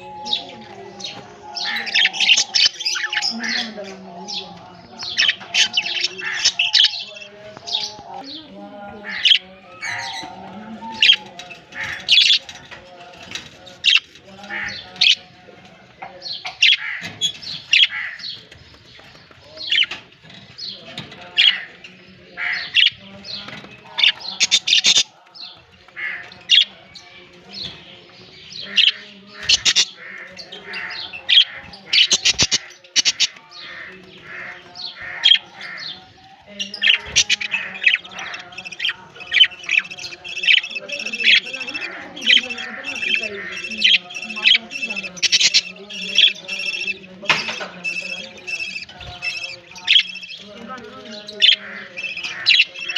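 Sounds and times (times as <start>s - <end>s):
budgerigars chirping: 0.0s - 8.2s, 8.9s - 15.4s, 16.1s - 52.9s.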